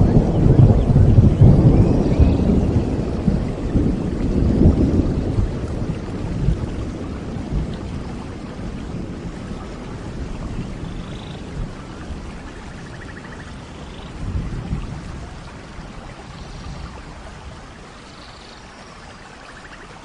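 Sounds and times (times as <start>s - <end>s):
thunder rumble: 0.0s - 18.1s
steady rain: 0.0s - 20.0s.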